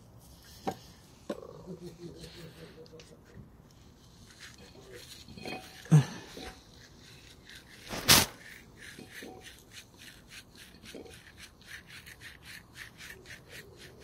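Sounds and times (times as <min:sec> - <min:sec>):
rubbing strokes on brake pistons: 0:00.2 - 0:14.0.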